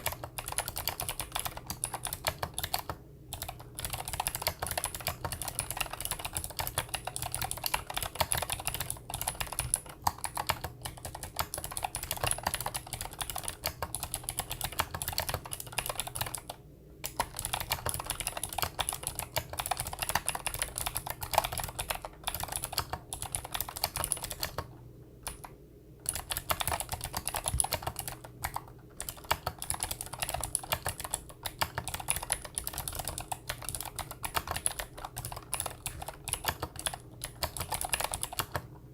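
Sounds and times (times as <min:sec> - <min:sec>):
fast typing on mechanical keyboard: 0:00.0 - 0:38.7.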